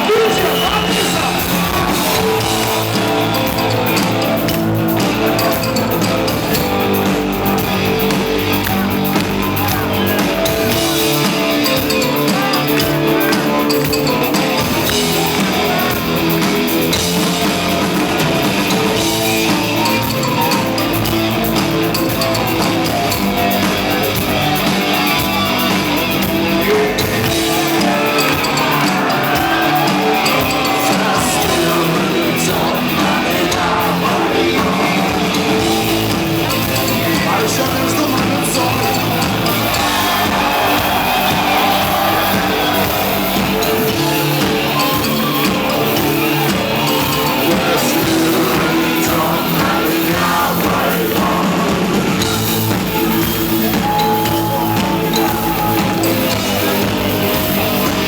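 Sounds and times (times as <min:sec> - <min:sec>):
guitars: 0:00.0 - 0:58.0
person singing: 0:00.0 - 0:58.0
rock band playing live: 0:00.0 - 0:58.0.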